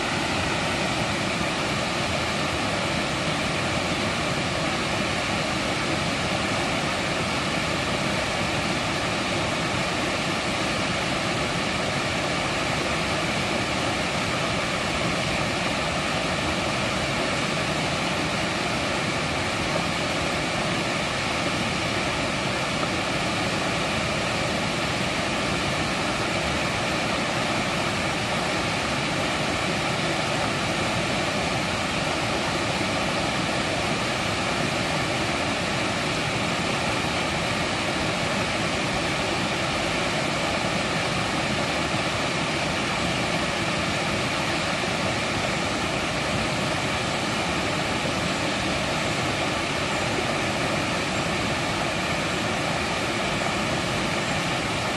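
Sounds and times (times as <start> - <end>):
stream water rushing: 0.0 - 54.9.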